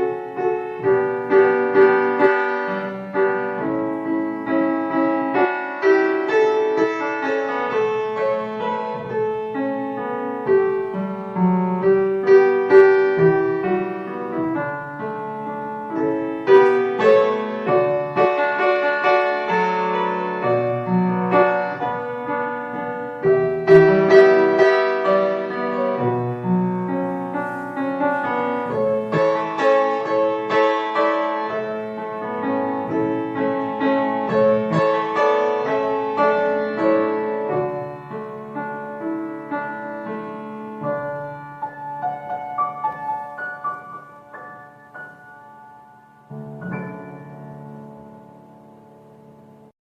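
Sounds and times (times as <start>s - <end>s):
calm solo piano piece: 0.0s - 49.7s.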